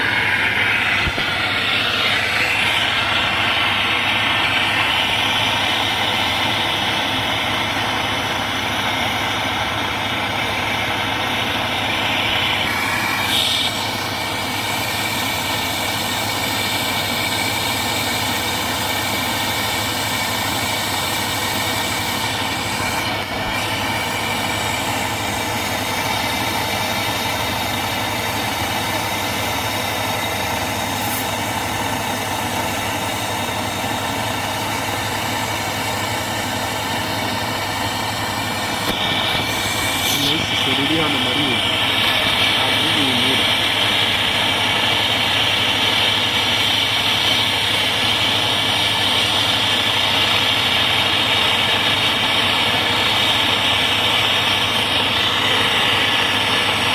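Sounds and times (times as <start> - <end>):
torch flame hissing: 0.0 - 56.9.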